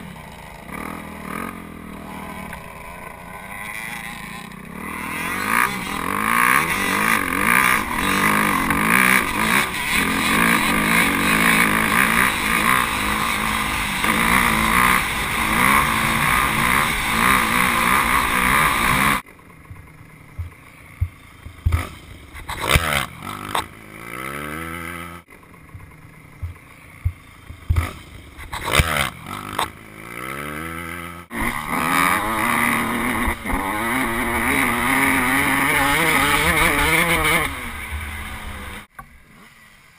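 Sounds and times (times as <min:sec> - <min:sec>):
engine revving up and down: 0:00.0 - 0:19.2, 0:21.6 - 0:25.3, 0:27.7 - 0:39.6
dirt bike engines at high revs: 0:00.0 - 0:39.9.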